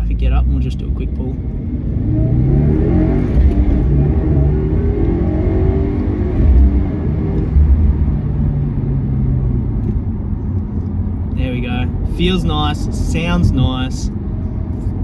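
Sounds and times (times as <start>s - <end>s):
car engine accelerating hard: 0.3s - 14.2s.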